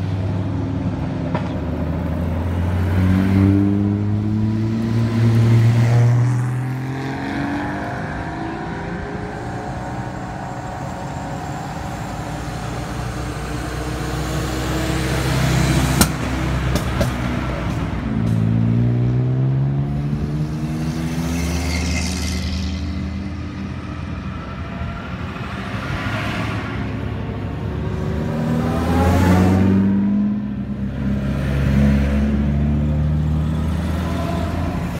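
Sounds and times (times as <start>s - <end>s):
cars driving past: 0.0s - 34.9s.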